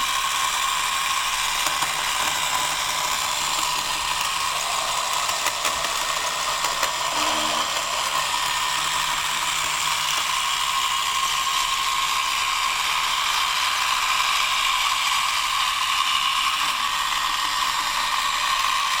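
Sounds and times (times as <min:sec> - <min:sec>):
robot vacuum cleaner whirring: 0:00.0 - 0:19.0.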